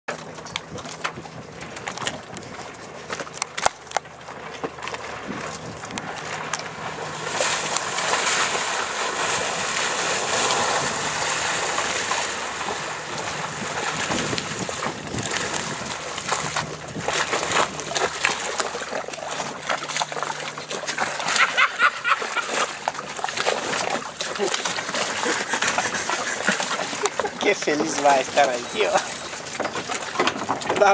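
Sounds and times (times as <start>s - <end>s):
outboard motor running: 0.1s - 30.9s
water splashing against hull: 0.1s - 30.9s.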